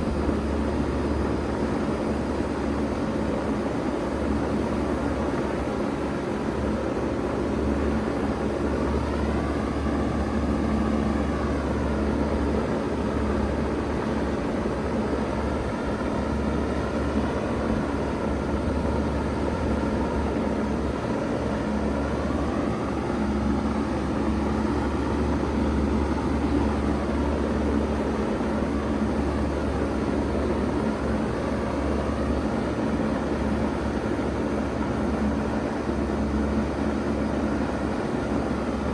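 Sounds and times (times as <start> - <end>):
outdoor fan rushing: 0.0 - 38.9.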